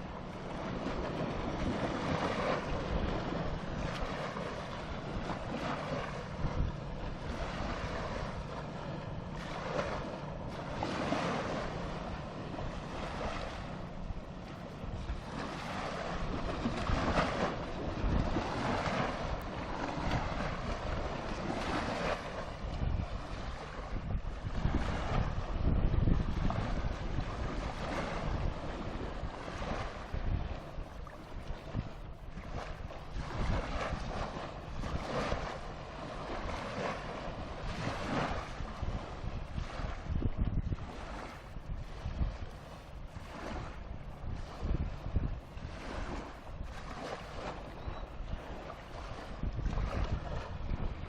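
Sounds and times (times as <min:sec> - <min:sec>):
sea waves washing in: 0:00.0 - 0:51.0
wind rumbling on microphone: 0:00.0 - 0:51.0.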